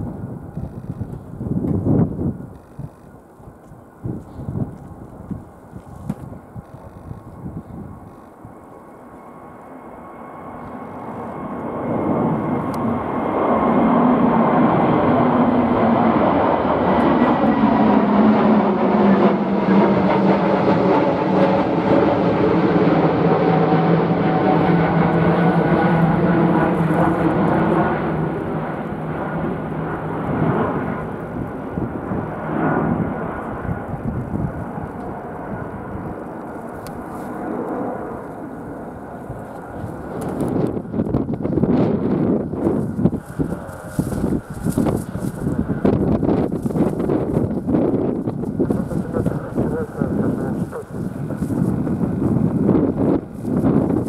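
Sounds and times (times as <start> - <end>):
wind buffeting microphone: 0.0 - 8.7, 10.6 - 54.0
jet airliner flying past: 0.0 - 54.0.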